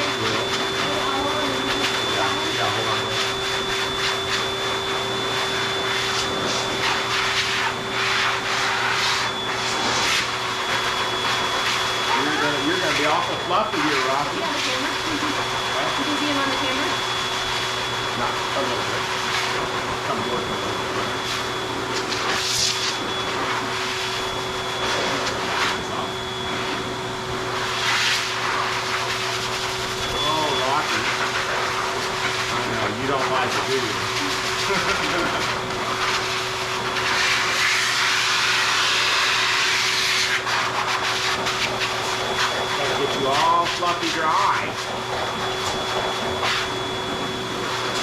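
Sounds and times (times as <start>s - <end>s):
dog grooming dryer blowing: 0.0s - 48.0s.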